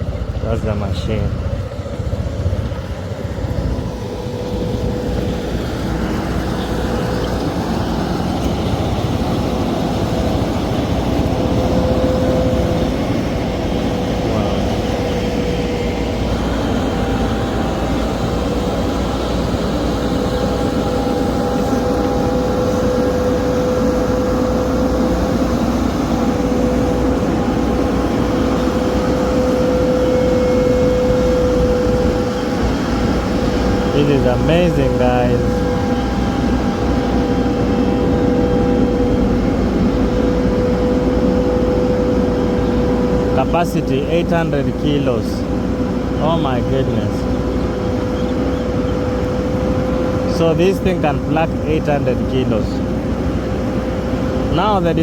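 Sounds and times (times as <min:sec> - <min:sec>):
engine running with whine: 0:00.0 - 0:55.0.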